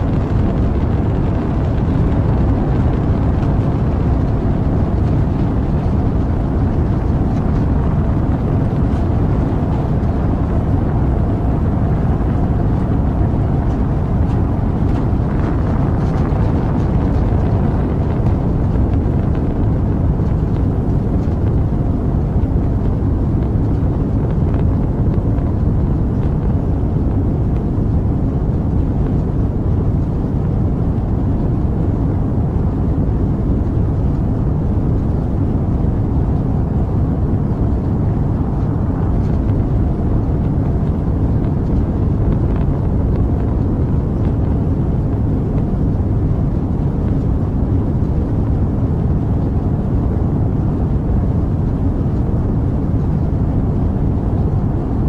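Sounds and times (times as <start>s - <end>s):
rocket engine rumble: 0.0s - 55.0s.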